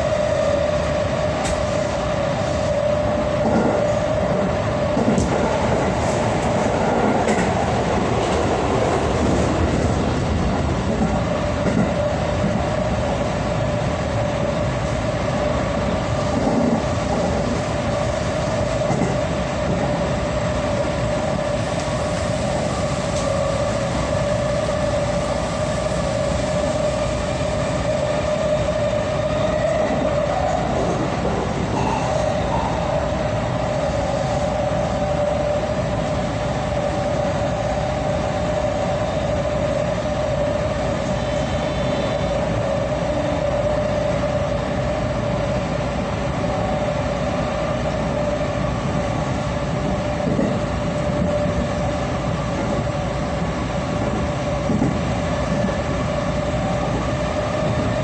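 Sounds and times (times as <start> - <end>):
steady train whine: 0.0 - 58.0
train wheels rumbling on track: 0.0 - 58.0.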